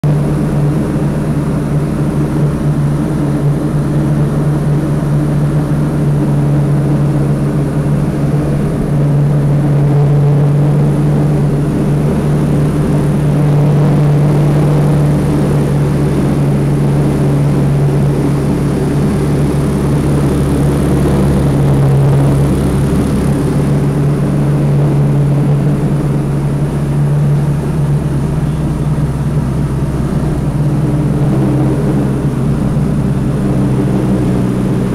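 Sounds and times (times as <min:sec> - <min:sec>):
light aircraft engine and propeller droning: 0:00.0 - 0:34.9.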